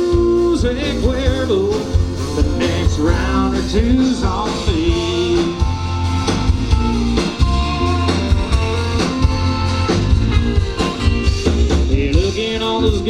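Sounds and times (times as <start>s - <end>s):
bass: 0.0s - 13.0s
drum kit steady beat: 0.0s - 13.0s
sustained guitar notes: 0.0s - 13.0s.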